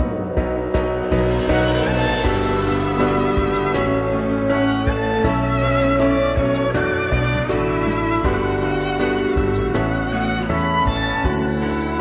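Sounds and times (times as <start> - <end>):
slow instrumental backing music: 0.0 - 12.0.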